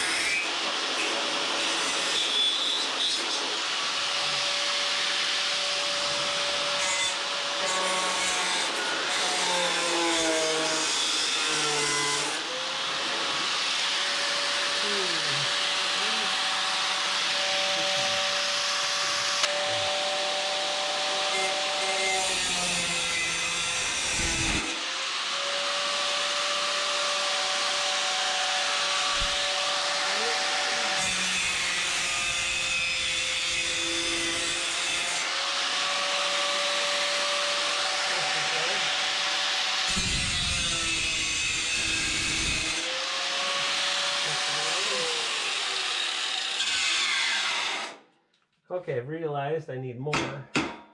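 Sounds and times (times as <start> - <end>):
angle grinder cutting metal: 0.0 - 48.0.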